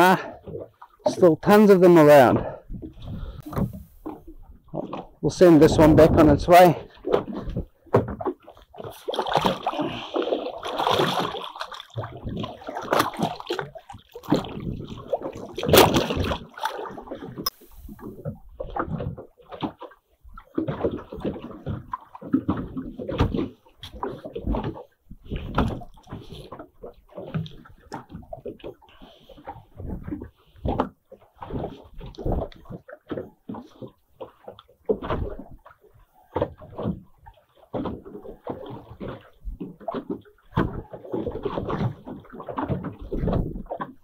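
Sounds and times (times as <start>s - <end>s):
water sloshing against boat hull: 0.0s - 44.0s.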